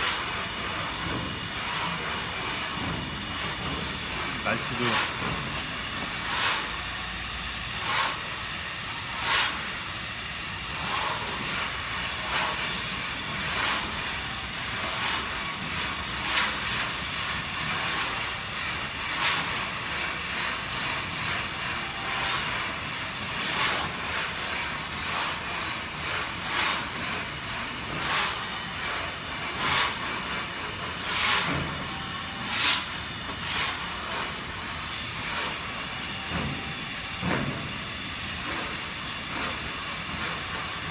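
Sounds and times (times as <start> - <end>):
torch flame hissing: 0.0 - 40.9.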